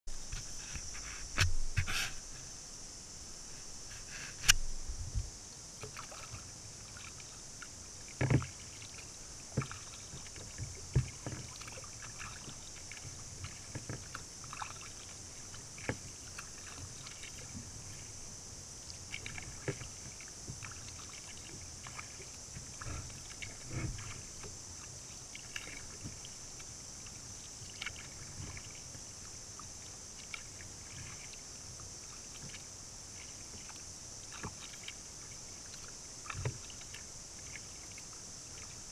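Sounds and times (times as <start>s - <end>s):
steady high hiss: 0.1s - 38.9s
paddle splashes and drips: 3.5s - 38.9s.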